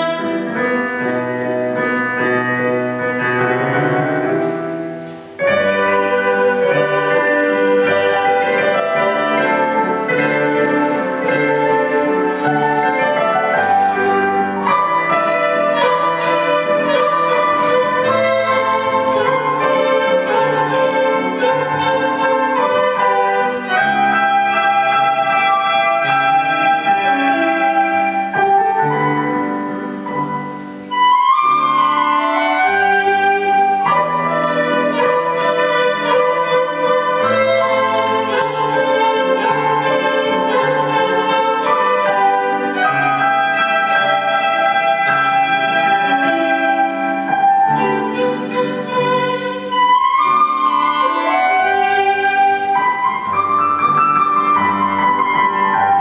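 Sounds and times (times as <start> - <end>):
digital piano: 0.0 - 56.0
flute: 0.0 - 56.0
violin: 0.0 - 56.0.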